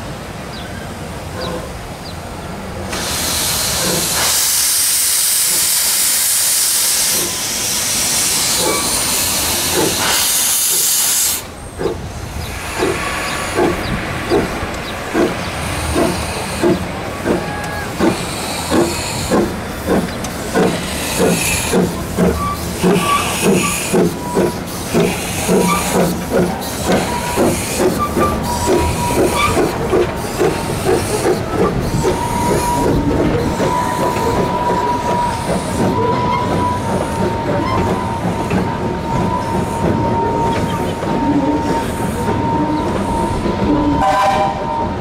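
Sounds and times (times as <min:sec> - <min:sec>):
steam locomotive hissing steam: 0:00.1 - 0:45.0
steam locomotive exhaust chuffs: 0:02.8 - 0:45.0.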